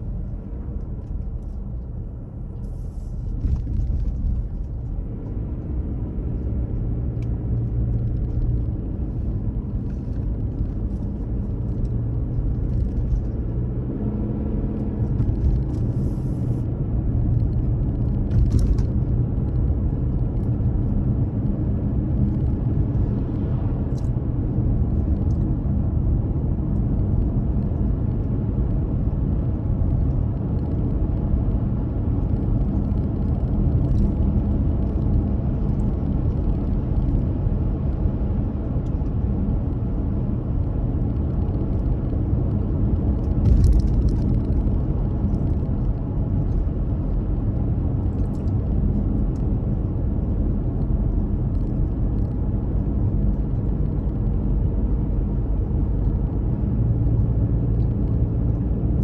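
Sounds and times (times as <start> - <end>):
car road rumble inside cabin: 0.0 - 59.0.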